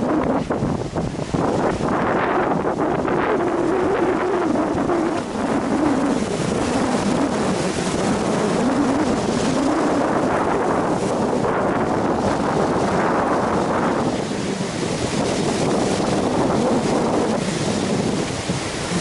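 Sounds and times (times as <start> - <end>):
sea waves washing against rocks: 0.0 - 19.0
wind buffeting microphone: 0.0 - 19.0.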